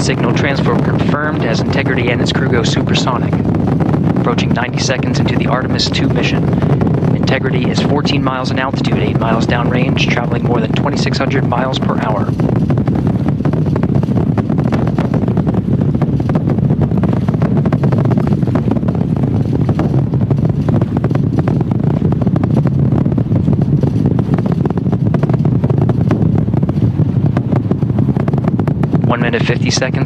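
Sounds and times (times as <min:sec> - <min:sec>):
rocket engines crackling rumble: 0:00.0 - 0:30.0.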